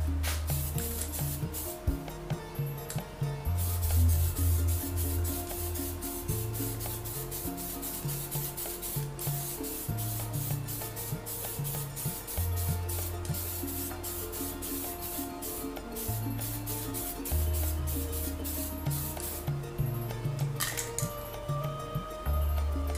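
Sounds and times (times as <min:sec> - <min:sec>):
music with bass and beat: 0:00.0 - 0:22.9
aerosol spray can hissing: 0:00.2 - 0:02.1, 0:02.9 - 0:19.5, 0:20.6 - 0:21.2.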